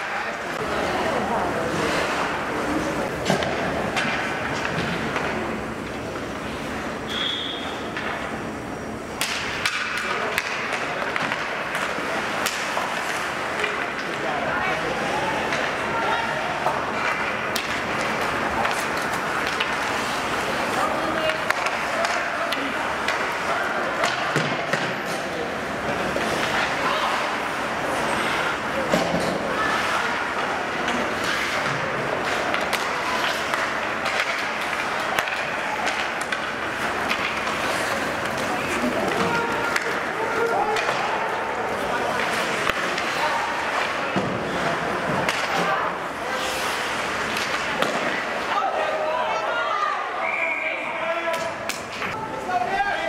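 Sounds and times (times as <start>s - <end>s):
skates scraping ice: 0.0s - 8.5s, 9.1s - 53.0s
hockey sticks clacking: 0.0s - 49.5s, 51.2s - 53.0s
crowd murmur in rink: 0.0s - 53.0s.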